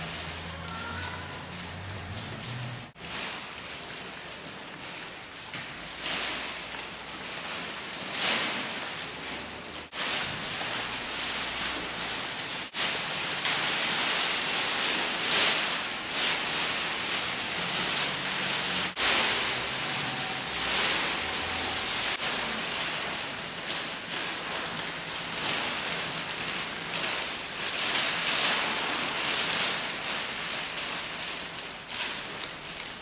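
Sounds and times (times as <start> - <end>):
foil crackling and rustling: 0.0 - 33.0.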